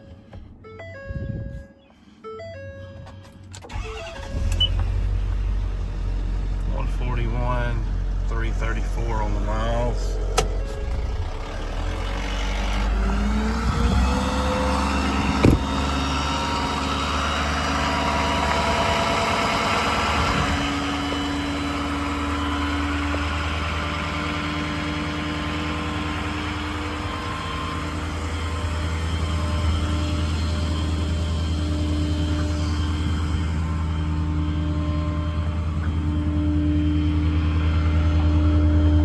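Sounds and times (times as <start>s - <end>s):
diesel engine running: 2.2s - 39.0s.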